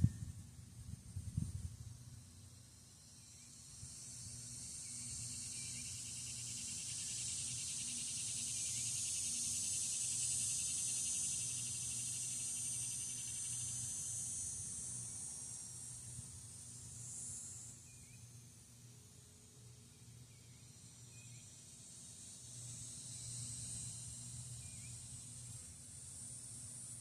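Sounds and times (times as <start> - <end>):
insects buzzing high-pitched drone: 2.0 - 27.0
fast pulsing insect trill: 2.4 - 18.6, 19.8 - 27.0.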